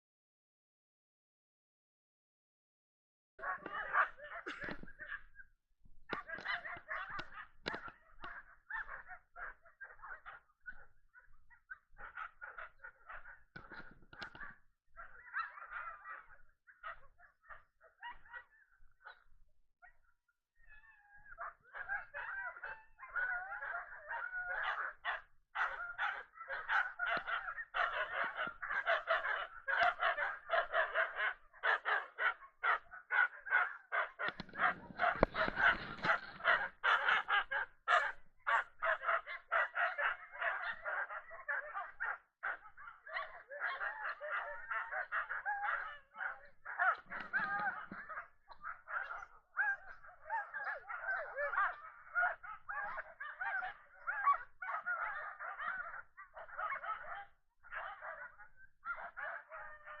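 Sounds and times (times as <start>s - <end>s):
sled dogs barking and yelping: 3.4s - 60.0s.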